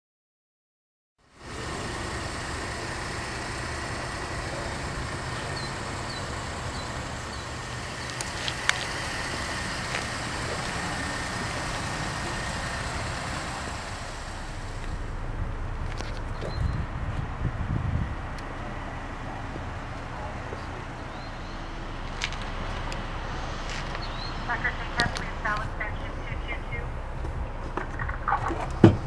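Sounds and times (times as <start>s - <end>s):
road traffic rumble: 1.2s - 29.0s.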